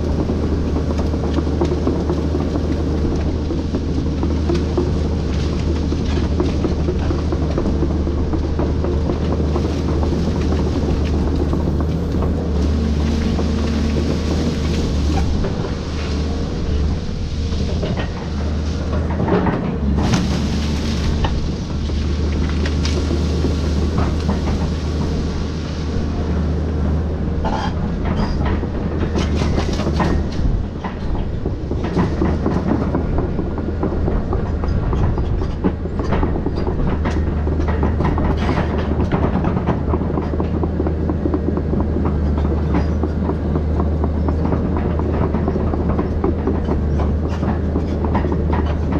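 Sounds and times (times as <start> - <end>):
excavator diesel engine running: 0.0 - 48.9
clanks knocks and cracks: 0.1 - 16.9, 17.6 - 25.4, 27.4 - 48.9.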